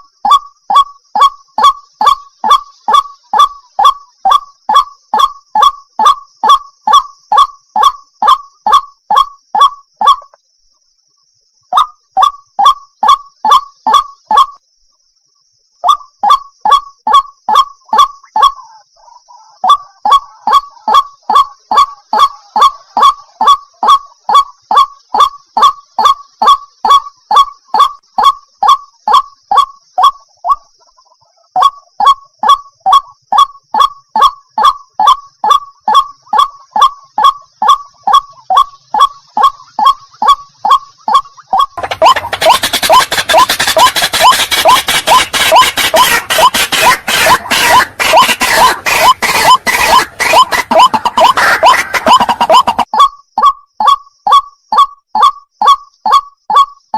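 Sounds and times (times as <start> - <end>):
water hen clucking calls: 0.0 - 10.4, 11.7 - 14.6, 15.8 - 56.9.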